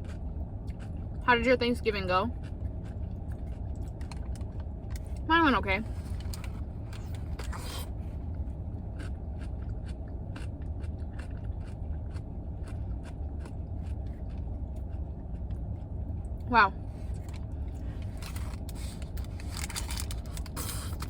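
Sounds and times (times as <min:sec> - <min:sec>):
chewing and wrapper crackling: 0:00.0 - 0:01.2, 0:02.4 - 0:05.3, 0:05.9 - 0:16.4, 0:17.1 - 0:21.0
car engine idling: 0:00.0 - 0:21.0.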